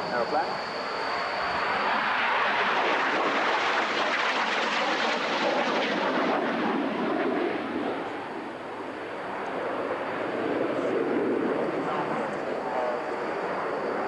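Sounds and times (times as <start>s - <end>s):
jet aircraft rushing overhead: 0.0s - 14.0s.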